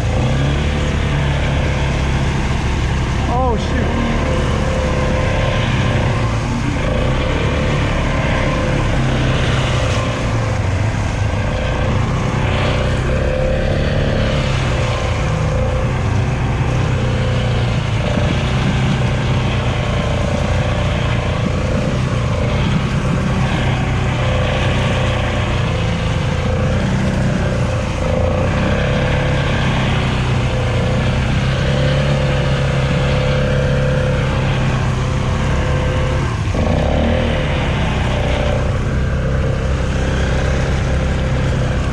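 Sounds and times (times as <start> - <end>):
atv engine running steadily: 0.0 - 41.9.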